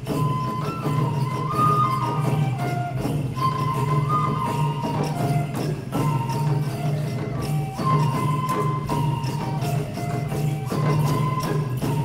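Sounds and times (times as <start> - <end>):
bells jingling: 0.0 - 12.0
high flute phrase: 0.0 - 12.0.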